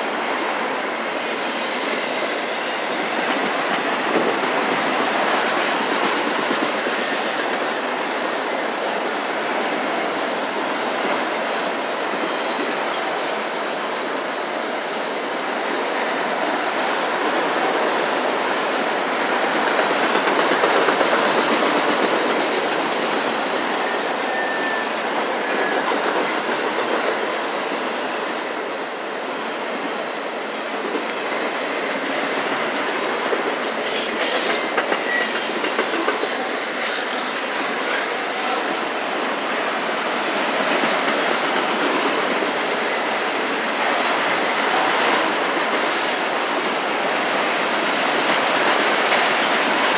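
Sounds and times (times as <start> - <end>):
steel wheels rumbling on rail: 0.0 - 49.9.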